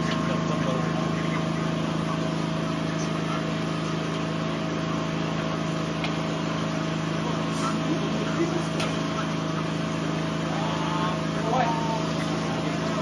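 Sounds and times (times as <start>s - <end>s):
mechanical drone: 0.0s - 13.0s.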